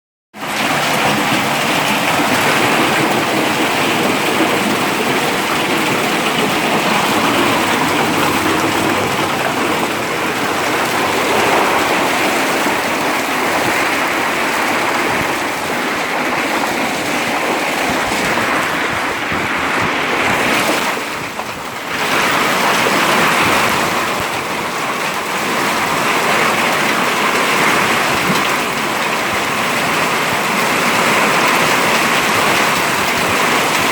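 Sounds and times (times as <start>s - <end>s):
hail and rain pelting down: 0.4s - 33.9s.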